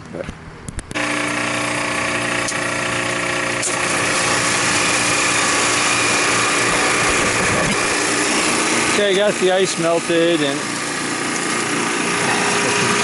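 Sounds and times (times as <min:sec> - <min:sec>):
refrigeration unit humming: 0:00.8 - 0:13.0.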